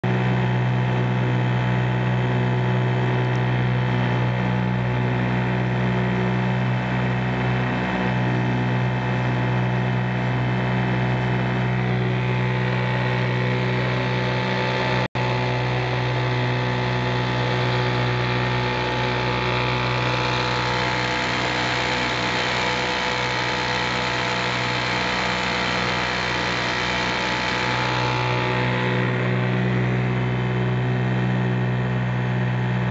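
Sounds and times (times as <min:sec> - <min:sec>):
outboard engine running: 0:00.0 - 0:32.9.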